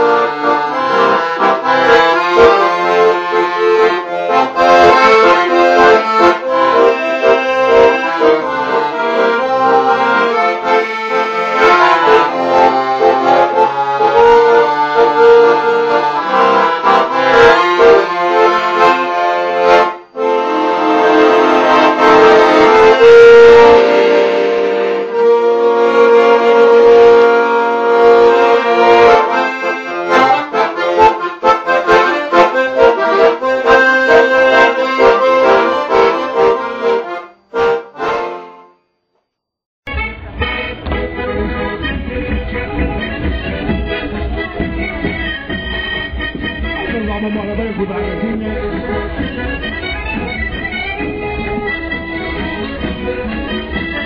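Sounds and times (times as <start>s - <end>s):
accordion music: 0.0s - 39.0s, 39.8s - 54.0s.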